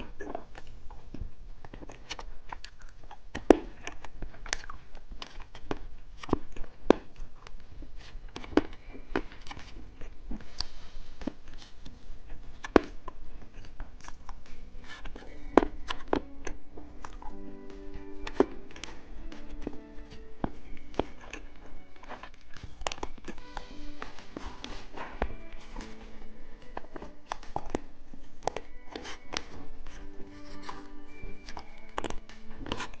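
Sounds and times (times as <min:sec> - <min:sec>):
candy being eaten: 0:01.6 - 0:33.0
plastic wrappers crackling: 0:01.7 - 0:33.0.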